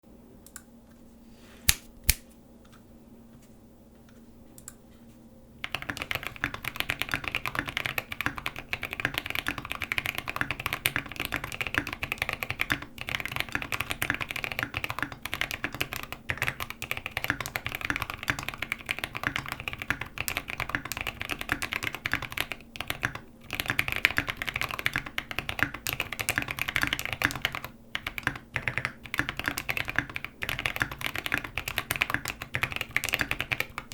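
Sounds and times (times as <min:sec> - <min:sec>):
sharp keyboard clicks: 0:01.7 - 0:02.2, 0:05.6 - 0:33.9
mechanical keyboard typing: 0:05.6 - 0:33.9.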